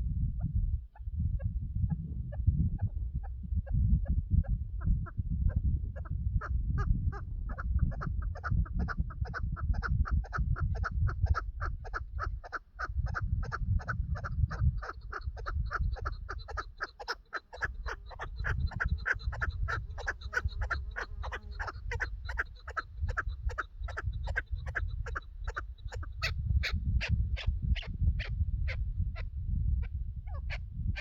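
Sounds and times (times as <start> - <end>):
partridge chuck calls: 4.4 - 29.3.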